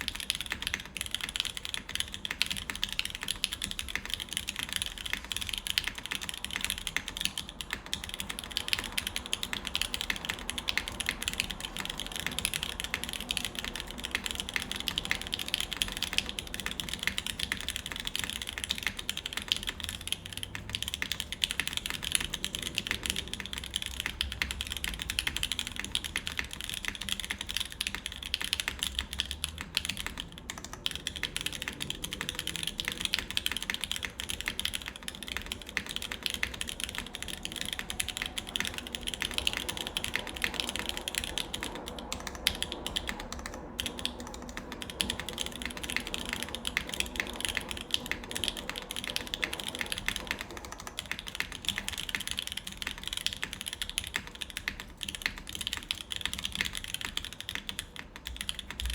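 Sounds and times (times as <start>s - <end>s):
mechanical keyboard clacking: 0.0s - 58.9s.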